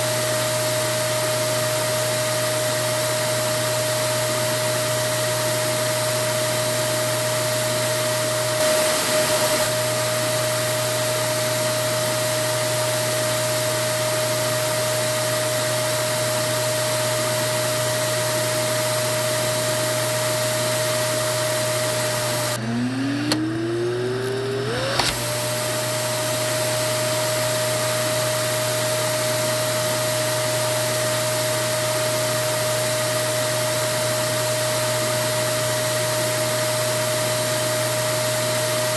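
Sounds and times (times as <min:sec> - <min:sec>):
vacuum cleaner motor whining: 0:00.0 - 0:38.9.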